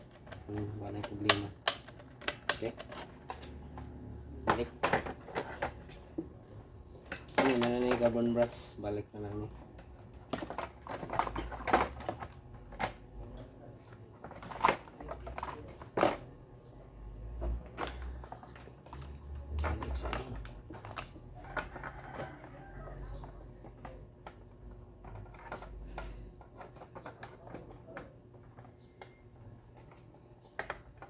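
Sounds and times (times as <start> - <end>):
small parts clicking and knocking: 0.0 - 16.3, 17.2 - 31.0.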